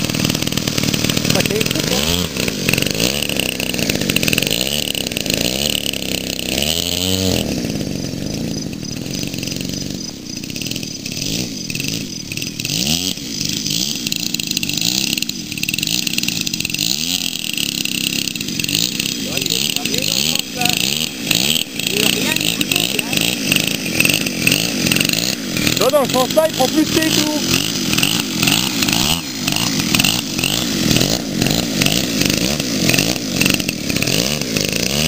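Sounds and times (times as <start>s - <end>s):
model propeller engine revving: 0.0s - 35.0s.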